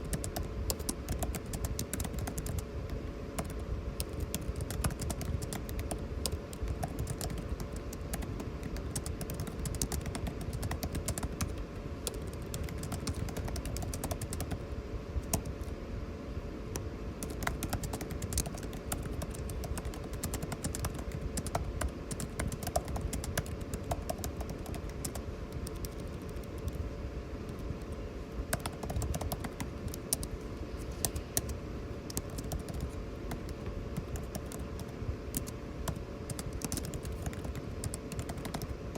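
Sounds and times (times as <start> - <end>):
keyboard keys clicking: 0.0 - 14.6, 15.2 - 15.7, 16.8 - 26.8, 27.5 - 30.4, 31.0 - 38.7
air conditioning hum: 0.0 - 38.9.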